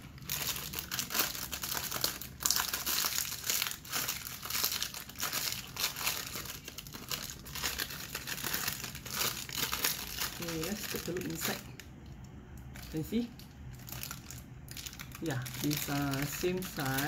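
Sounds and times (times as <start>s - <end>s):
foil chip packet crinkling: 0.0s - 17.0s.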